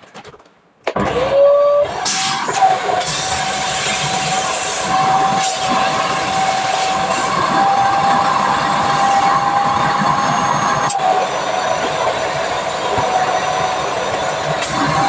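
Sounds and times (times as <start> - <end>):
vacuum cleaner running: 1.0 - 15.0.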